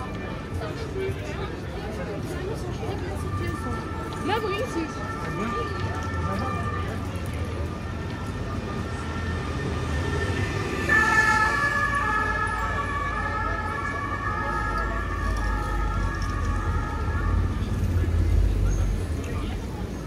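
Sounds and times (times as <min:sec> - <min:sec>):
low traffic rumble: 0:00.0 - 0:20.0
two-tone emergency siren: 0:02.2 - 0:19.1.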